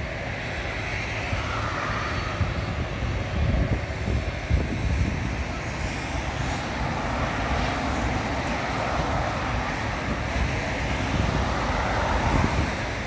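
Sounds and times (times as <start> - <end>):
distant jet engines roaring: 0.0 - 13.0
wind buffeting microphone: 0.0 - 13.0.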